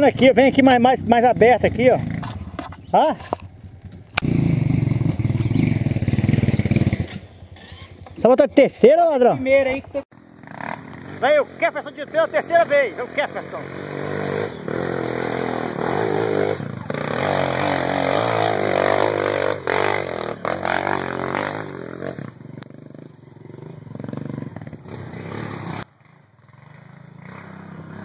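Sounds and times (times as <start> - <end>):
off-road motorcycle engine revving: 0.0 - 28.0.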